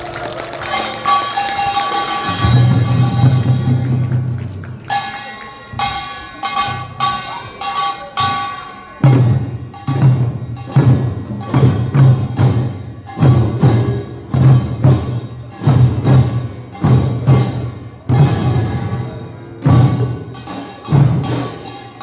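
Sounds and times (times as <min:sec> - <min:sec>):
metal gongs ringing: 0:00.7 - 0:04.2, 0:04.8 - 0:22.0
heavy drum strokes: 0:01.0 - 0:05.1, 0:05.8 - 0:22.0.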